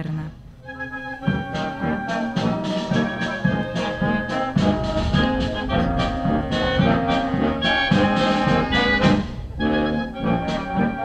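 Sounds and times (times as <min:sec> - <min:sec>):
brass band playing: 0:00.6 - 0:11.0
steady drum beat: 0:01.2 - 0:11.0.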